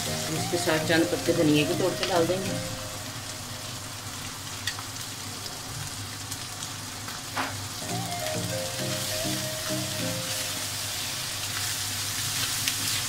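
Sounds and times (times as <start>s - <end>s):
eggs sizzling in a frying pan: 0.0s - 13.0s.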